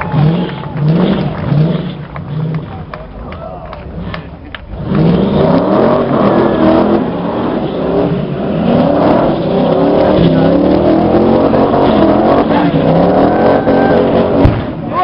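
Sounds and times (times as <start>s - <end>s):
car engine revving hard: 0.0s - 3.0s, 3.8s - 15.0s.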